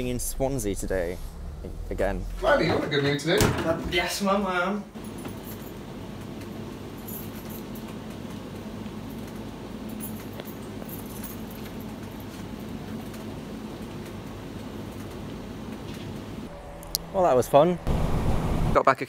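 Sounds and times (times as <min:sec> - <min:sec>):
low room hum: 0:00.0 - 0:18.8.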